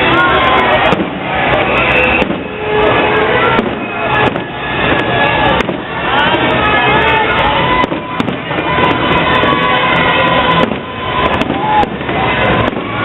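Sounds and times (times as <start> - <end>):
firework bangs: 0.0 - 13.0
fireworks crackling and rumbling: 0.0 - 13.0.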